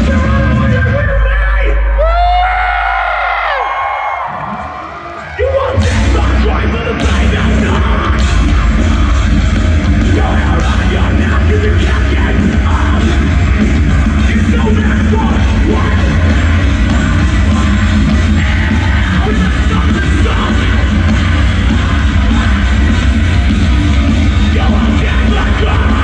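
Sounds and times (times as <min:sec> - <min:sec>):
metal band playing live: 0:00.0 - 0:02.5, 0:04.6 - 0:26.0.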